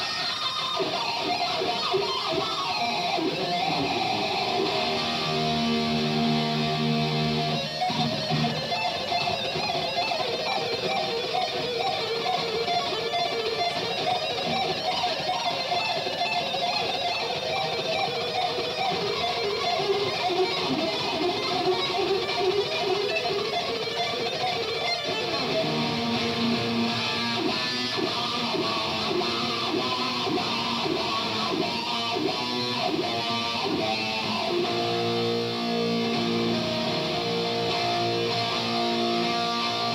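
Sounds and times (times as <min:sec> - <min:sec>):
electric guitar solo: 0:00.0 - 0:39.9.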